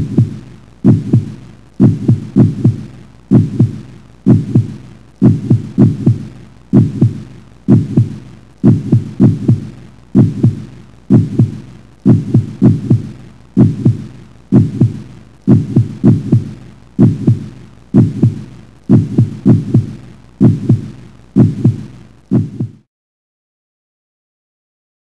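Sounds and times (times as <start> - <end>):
heartbeat thumps: 0.0 - 22.9.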